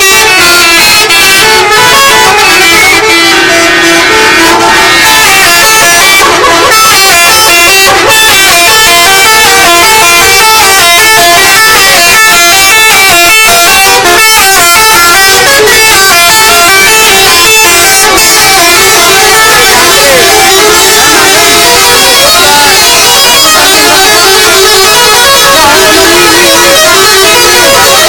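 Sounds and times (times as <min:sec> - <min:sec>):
multi-tone musical air horn: 0:00.0 - 0:28.0.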